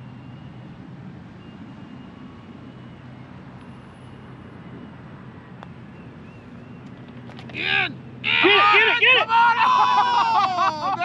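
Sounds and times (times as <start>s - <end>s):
low hum of distant traffic: 0.0s - 11.0s.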